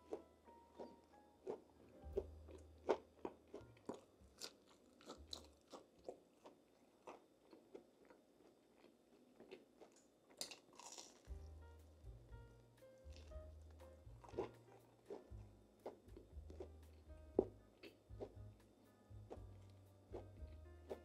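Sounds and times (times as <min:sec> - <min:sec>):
crunching and chewing food: 0:00.0 - 0:12.0, 0:13.0 - 0:21.0.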